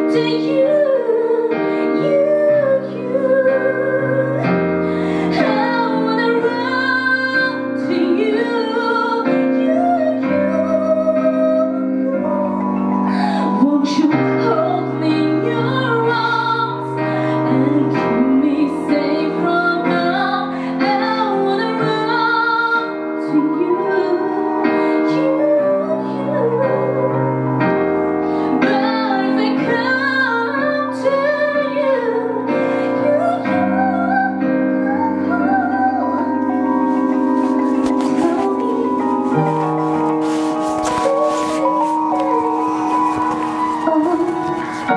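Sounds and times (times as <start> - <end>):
woman singing a ballad: 0.0 - 37.4, 38.0 - 44.9
digital piano chords: 0.0 - 44.9.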